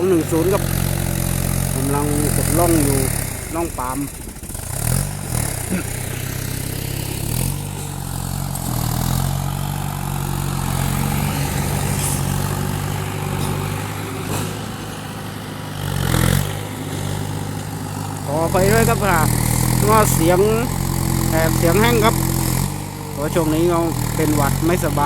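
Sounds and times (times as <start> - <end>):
excavator diesel engine digging: 0.0 - 25.0.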